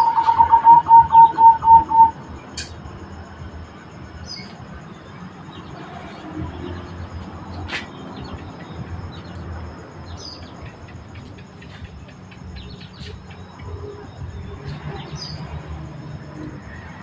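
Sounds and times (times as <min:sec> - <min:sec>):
birds chirping: 0:00.0 - 0:17.0
insect-like trill: 0:00.0 - 0:17.0.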